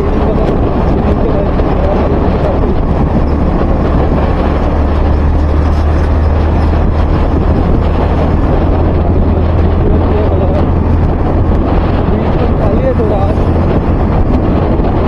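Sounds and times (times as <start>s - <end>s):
motorcycle engine rumble: 0.0s - 15.0s
road noise: 0.0s - 15.0s
wind buffeting microphone: 0.0s - 15.0s.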